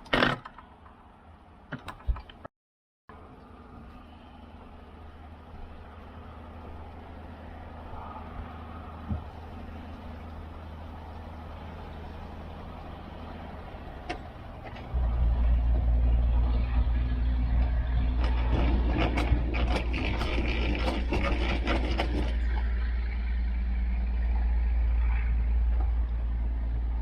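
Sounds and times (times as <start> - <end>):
outboard motor humming: 3.1 - 27.0.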